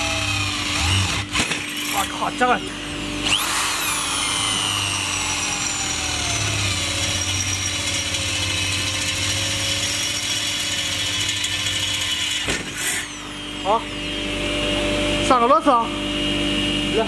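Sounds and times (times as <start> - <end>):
electric drill boring into steel: 0.0 - 14.6.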